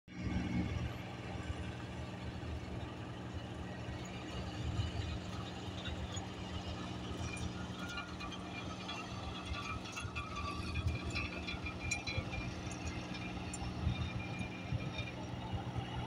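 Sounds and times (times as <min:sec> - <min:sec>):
lorry engine running slowly: 0:00.1 - 0:16.0
light rattles: 0:02.7 - 0:16.0.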